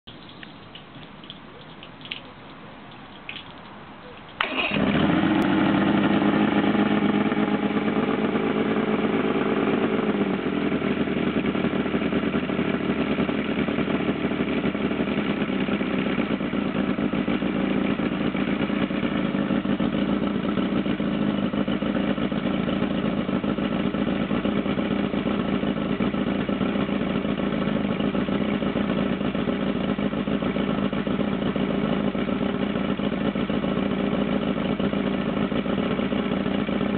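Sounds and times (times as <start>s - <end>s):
outboard engine starting and idling: 4.4s - 36.9s.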